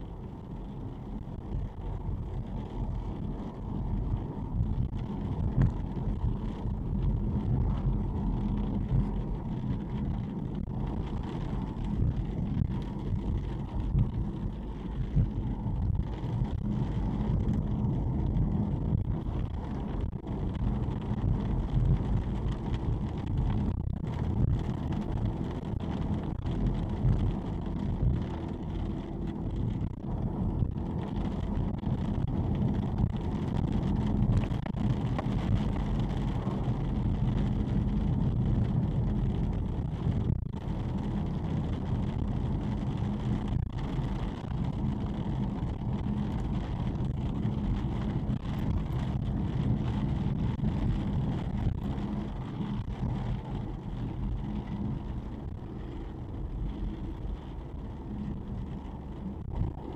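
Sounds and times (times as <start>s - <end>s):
car road noise: 0.0s - 59.9s.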